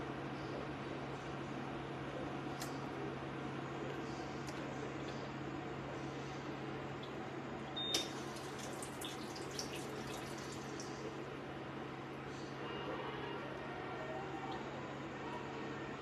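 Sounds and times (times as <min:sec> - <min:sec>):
space heater fan whirring: 0:00.0 - 0:16.0.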